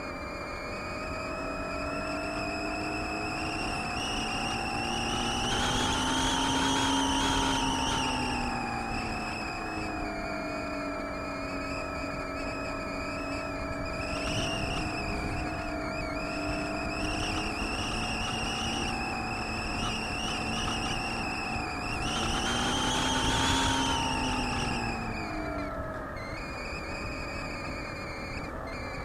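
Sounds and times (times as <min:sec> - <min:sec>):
propeller motor whining: 0:00.8 - 0:29.0
wind rushing over microphone: 0:00.9 - 0:29.0.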